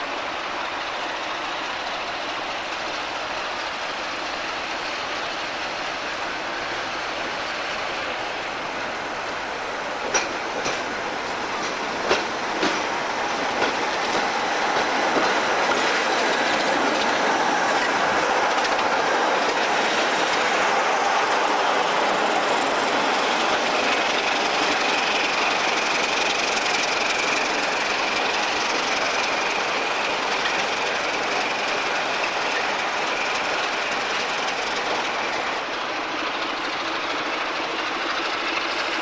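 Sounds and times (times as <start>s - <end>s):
diesel locomotives running slowly: 0.0s - 39.0s
train wheels clicking over points: 7.3s - 39.0s.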